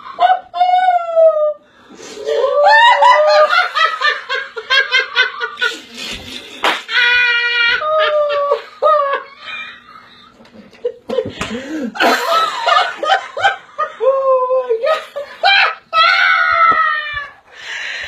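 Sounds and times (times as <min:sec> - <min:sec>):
woman laughing: 0:00.0 - 0:01.6, 0:02.3 - 0:16.4.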